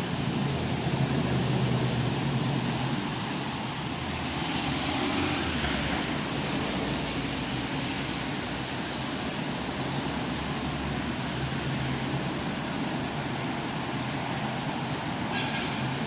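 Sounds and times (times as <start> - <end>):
rain hiss on wet road: 0.0 - 16.0
tyres hissing on wet road: 0.0 - 16.0.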